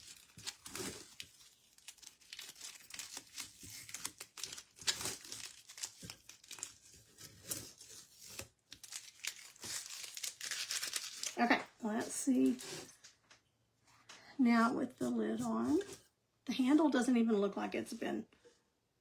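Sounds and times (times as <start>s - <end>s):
crinkling and rustling: 0.0s - 16.1s.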